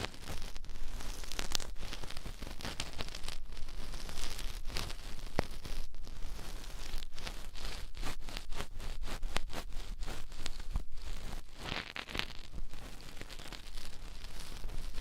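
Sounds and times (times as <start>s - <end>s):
ear tool scratching inside ear: 0.0s - 15.0s.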